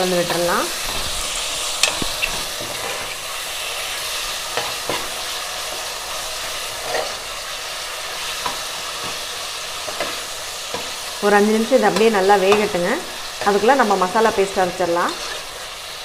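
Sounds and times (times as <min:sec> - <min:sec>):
liver sizzling in hot oil: 0:00.0 - 0:16.0
spatula scraping pan: 0:00.3 - 0:11.1, 0:11.8 - 0:15.6.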